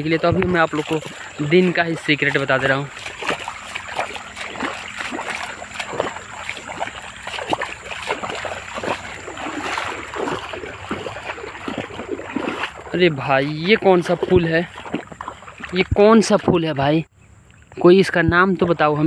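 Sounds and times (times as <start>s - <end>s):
footsteps crunching through brush: 0.0s - 16.7s.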